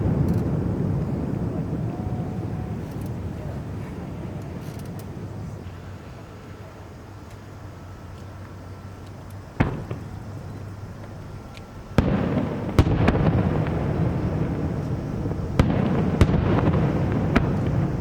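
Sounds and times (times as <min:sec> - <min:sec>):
fireworks bangs: 0:00.0 - 0:07.3, 0:08.8 - 0:18.0
fireworks rumble and crackle: 0:00.0 - 0:18.0.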